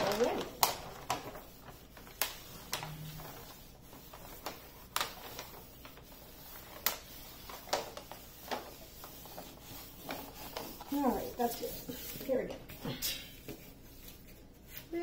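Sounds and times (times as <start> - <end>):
plastic cover sheet crackling: 0.0 - 12.5.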